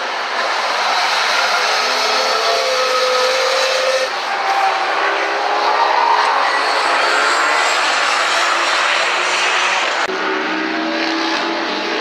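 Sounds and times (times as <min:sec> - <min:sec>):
racing cars driving past: 0:00.1 - 0:12.0.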